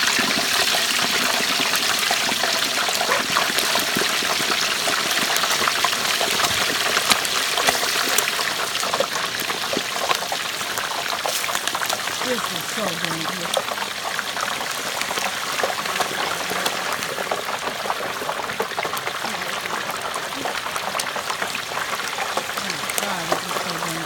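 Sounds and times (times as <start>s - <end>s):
oil sizzling and bubbling: 0.0s - 24.0s
sharp crackles and pops: 0.0s - 24.0s.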